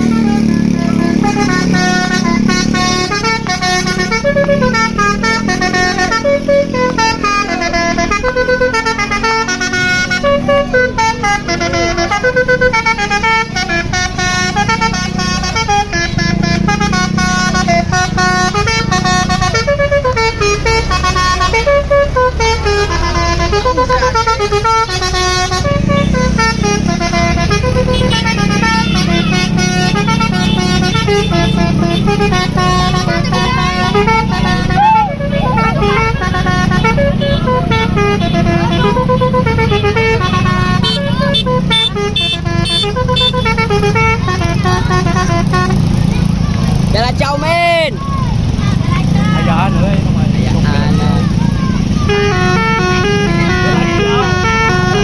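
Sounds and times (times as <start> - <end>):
bus horn playing a melody: 0.0 - 46.9, 48.4 - 55.0.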